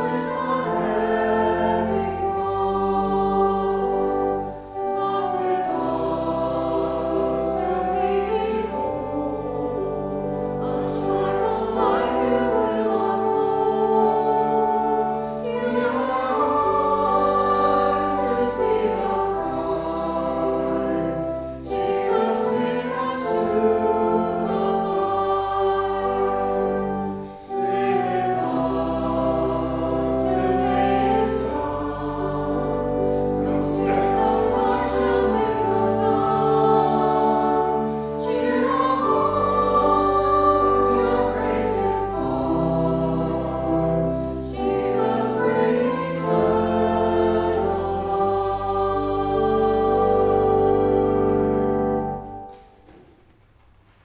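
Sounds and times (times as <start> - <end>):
sustained chordal accompaniment: 0.0 - 53.0
voices singing a hymn: 0.0 - 53.0.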